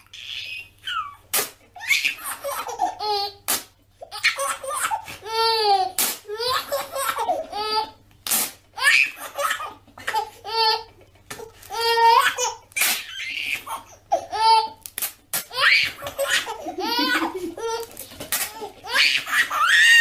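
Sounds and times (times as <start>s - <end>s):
baby laughing: 0.0s - 8.0s, 8.8s - 14.8s, 15.4s - 20.0s.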